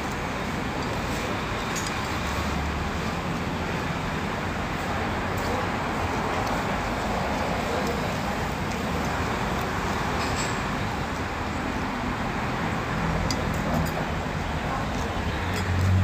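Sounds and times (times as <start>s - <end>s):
rushing background noise: 0.0s - 16.0s.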